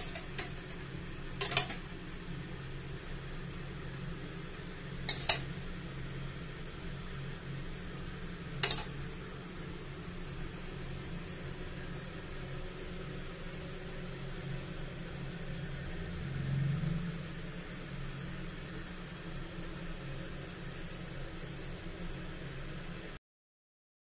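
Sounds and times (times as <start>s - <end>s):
even hiss: 0.0s - 23.2s
low mechanical hum: 0.0s - 23.2s.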